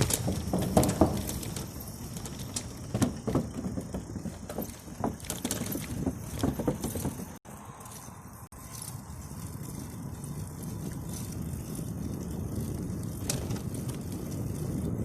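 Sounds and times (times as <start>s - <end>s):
bicycle knocking and rattling: 0.0s - 15.0s
bicycle tyres rumbling on trail: 0.0s - 15.0s.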